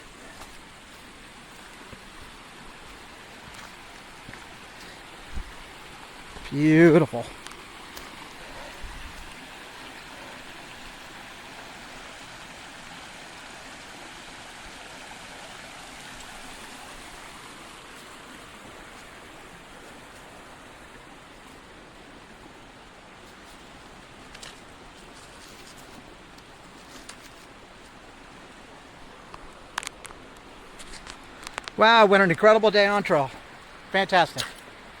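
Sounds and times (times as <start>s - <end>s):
stream running water: 0.0s - 35.0s.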